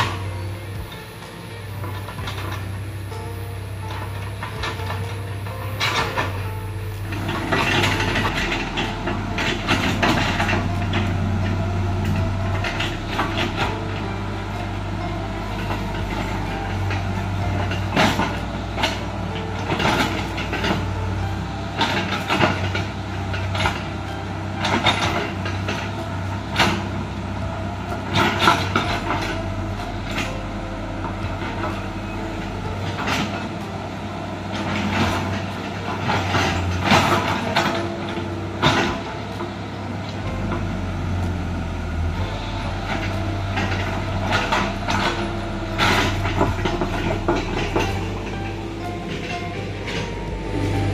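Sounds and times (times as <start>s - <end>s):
excavator diesel engine: 0.0s - 50.9s
machine clanks and knocks: 0.0s - 50.9s.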